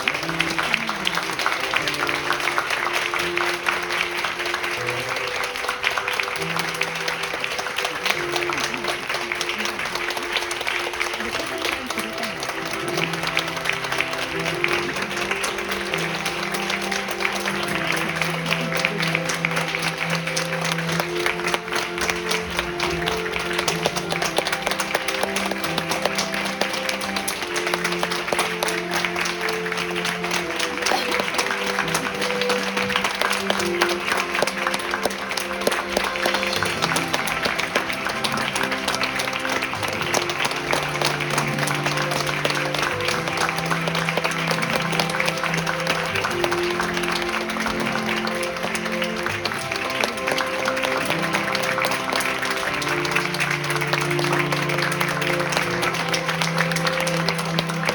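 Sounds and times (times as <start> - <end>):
audience applauding: 0.0 - 57.9
instrumental music: 0.0 - 57.9.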